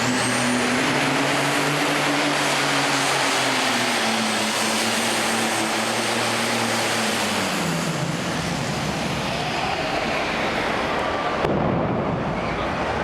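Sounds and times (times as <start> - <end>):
tractor engine running hard: 0.0 - 13.0
turbocharger whine: 0.0 - 13.0.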